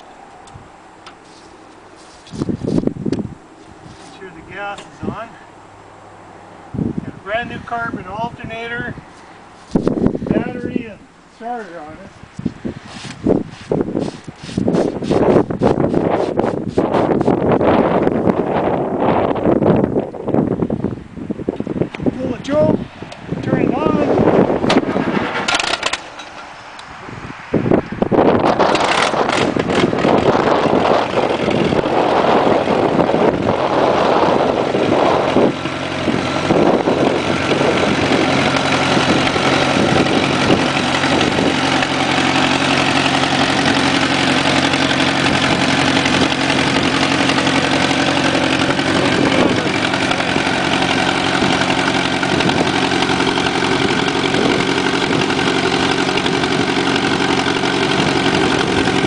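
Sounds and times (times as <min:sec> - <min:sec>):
tractor engine surging and idling: 0:00.0 - 0:59.0.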